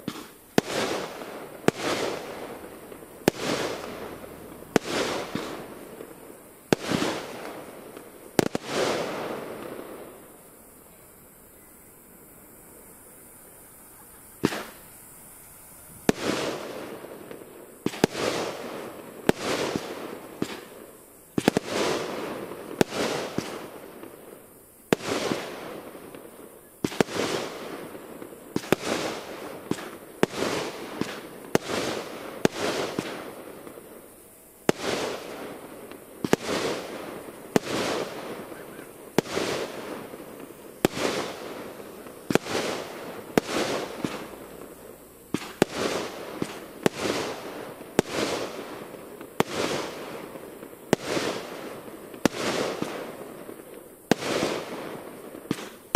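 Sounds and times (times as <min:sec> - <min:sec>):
fireworks bursting with bangs: 0:00.0 - 0:55.9.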